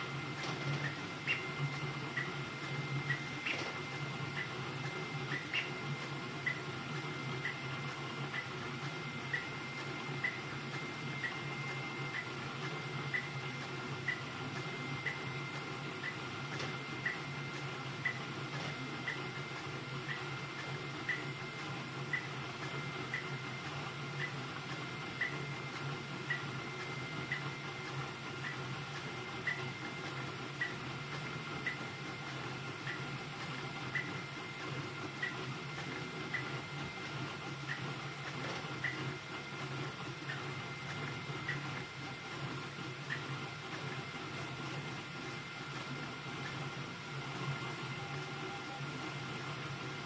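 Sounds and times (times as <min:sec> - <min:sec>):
printer mechanical hum and whine: 0:00.0 - 0:50.0.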